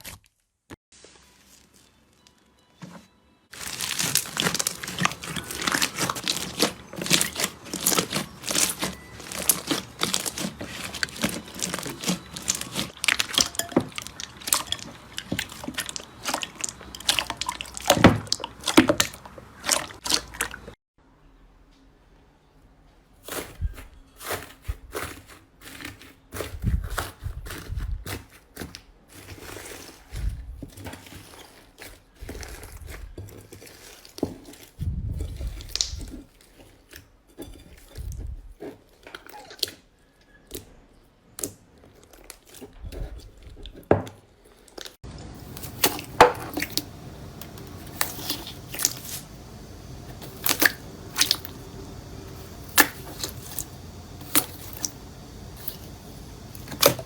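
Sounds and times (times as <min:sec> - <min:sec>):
slime crackling and crunching: 0:03.5 - 0:20.8, 0:23.2 - 0:38.0, 0:41.3 - 0:57.0.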